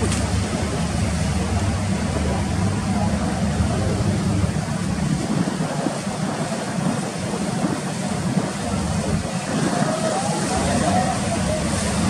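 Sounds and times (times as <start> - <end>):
rough sea: 0.0 - 12.0
wind buffeting microphone: 0.0 - 12.0.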